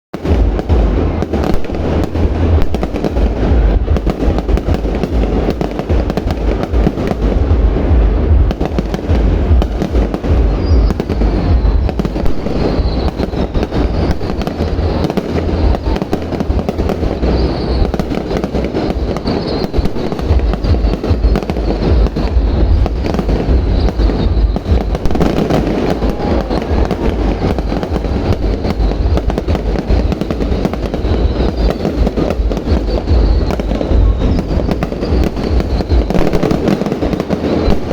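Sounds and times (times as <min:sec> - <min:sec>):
fireworks booms and crackling: 0:00.1 - 0:37.9.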